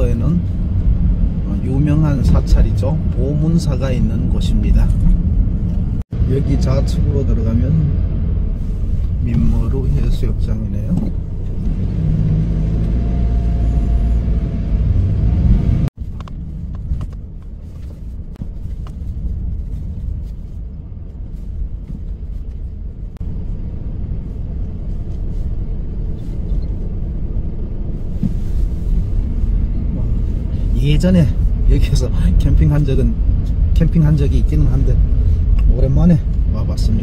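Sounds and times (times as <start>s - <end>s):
road and engine rumble: 0.0s - 37.0s.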